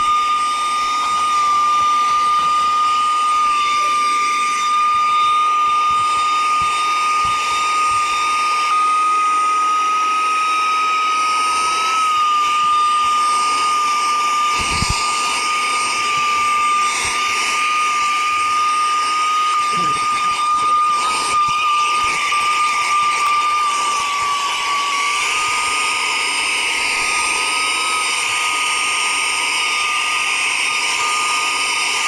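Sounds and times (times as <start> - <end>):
handheld vacuum whining: 0.0 - 32.0.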